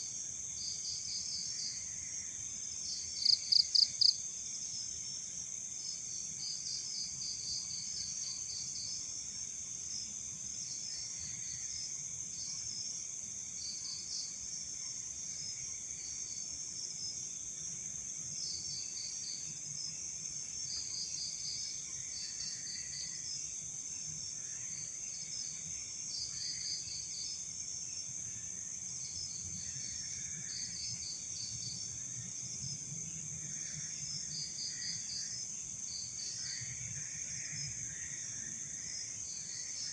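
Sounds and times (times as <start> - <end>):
crickets chirping: 0.0 - 39.9
steady high insect trill: 0.0 - 39.9.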